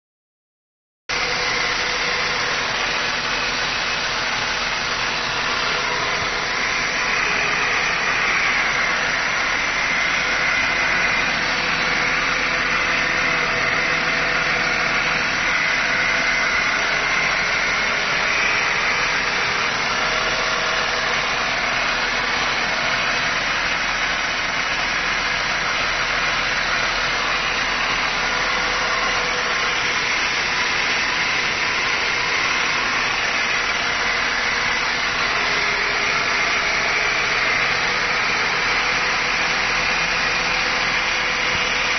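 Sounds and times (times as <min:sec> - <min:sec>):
car engine idling: 0:01.1 - 0:41.9.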